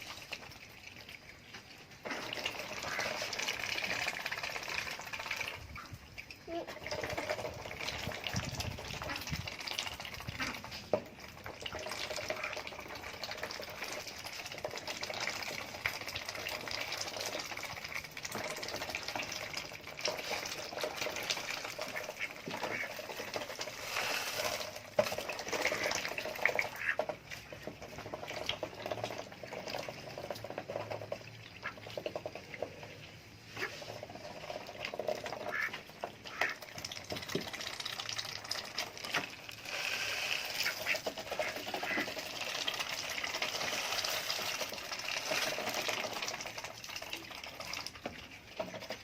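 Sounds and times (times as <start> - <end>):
ducks dabbling in water: 0.0 - 49.0.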